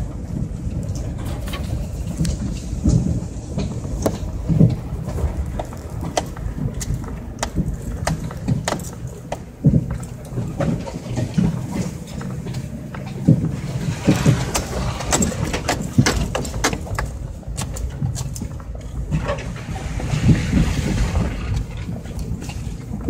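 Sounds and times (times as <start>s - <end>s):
heavy thumps over ruts: 0.0s - 23.0s
knocks and rattles: 0.0s - 23.0s
truck driving on rough dirt track: 0.0s - 23.0s.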